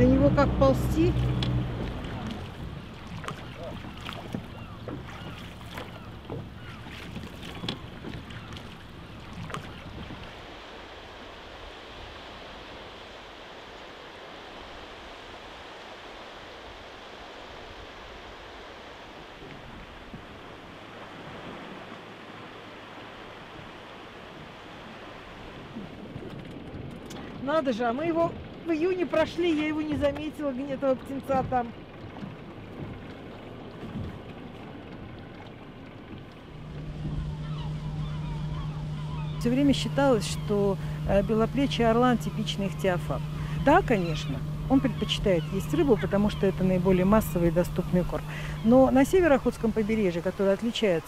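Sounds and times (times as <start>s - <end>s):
sea water and small waves: 0.0s - 51.0s
water splashes: 0.0s - 51.0s.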